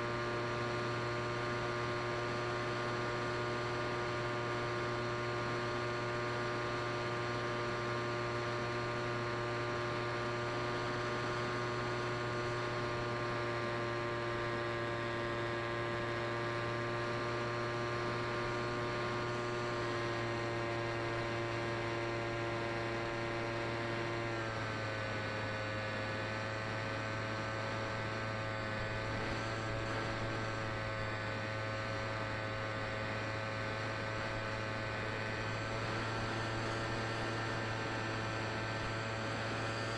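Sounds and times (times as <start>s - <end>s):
electric motor and propeller droning: 0.0s - 39.9s.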